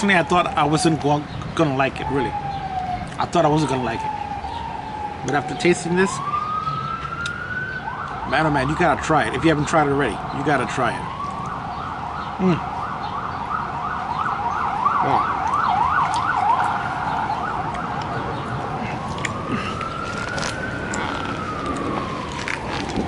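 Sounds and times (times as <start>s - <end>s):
siren wail: 0.0s - 23.0s
siren yelping: 0.0s - 23.0s.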